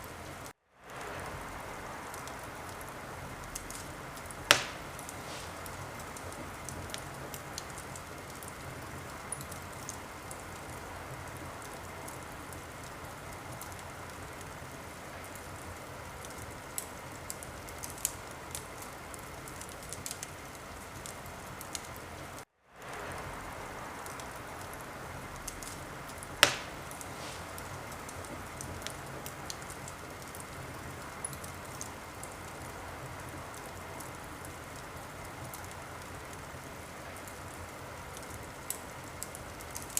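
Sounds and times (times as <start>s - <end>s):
loud fire snap: 0.0s - 39.9s
wood fire crackling: 0.0s - 39.9s.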